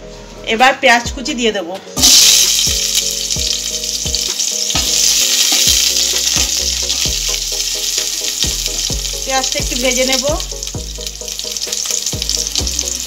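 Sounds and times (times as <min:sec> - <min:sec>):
onion sizzling in hot oil: 0:02.0 - 0:13.0.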